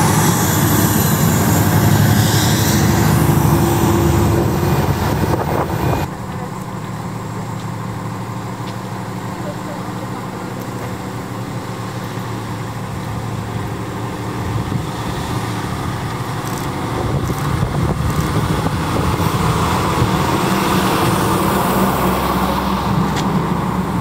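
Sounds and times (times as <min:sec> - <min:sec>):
diesel truck engine driving past: 0:00.0 - 0:24.0.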